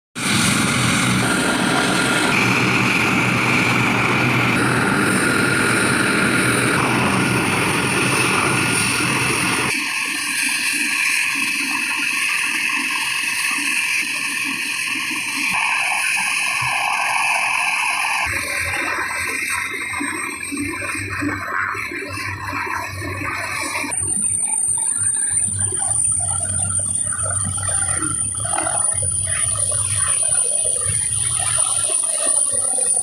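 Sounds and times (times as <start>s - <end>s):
helicopter flying overhead: 0.2s - 33.0s.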